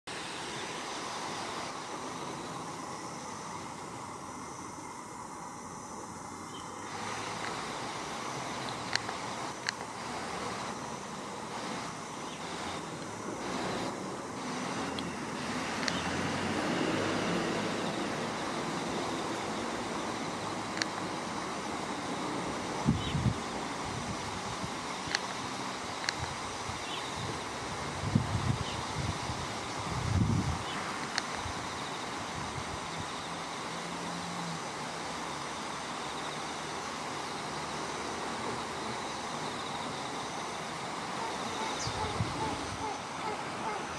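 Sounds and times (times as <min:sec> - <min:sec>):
outdoor rumble and hiss: 0:00.0 - 0:43.9.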